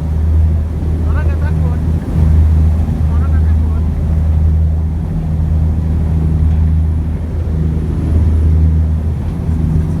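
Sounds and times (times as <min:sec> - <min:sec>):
ship engine droning: 0:00.0 - 0:10.0.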